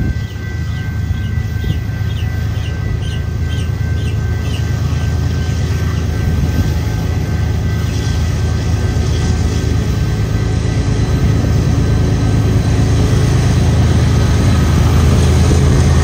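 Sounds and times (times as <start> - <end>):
diesel locomotives droning: 0.0 - 16.0
thin steady whine: 0.0 - 16.0.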